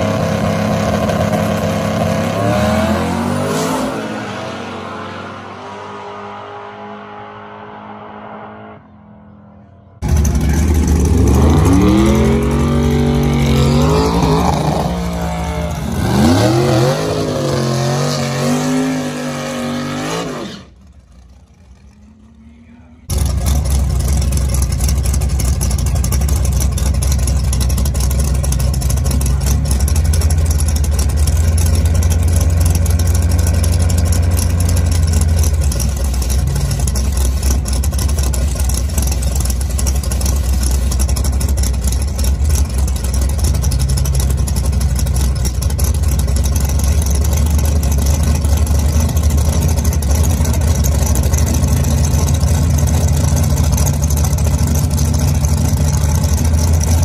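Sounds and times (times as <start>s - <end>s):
car engine idling: 8.8s - 19.9s, 20.6s - 57.0s.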